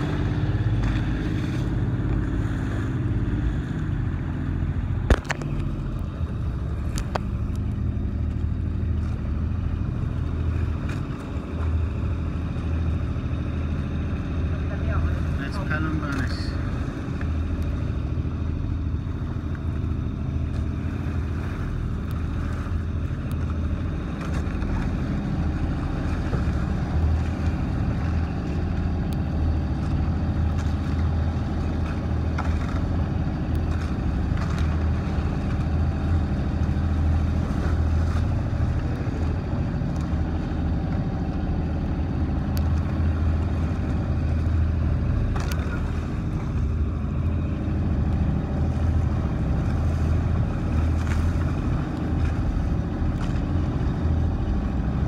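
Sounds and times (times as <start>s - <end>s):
boat engine droning: 0.0s - 55.0s
water rushing along hull: 0.0s - 55.0s.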